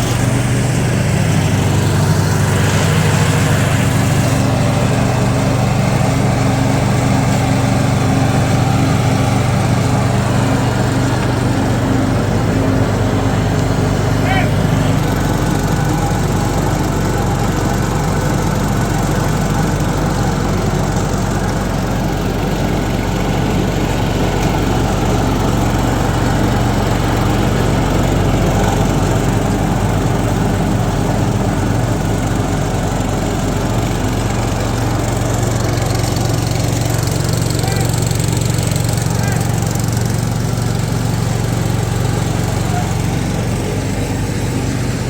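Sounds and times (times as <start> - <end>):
engine running steadily: 0.0 - 45.0.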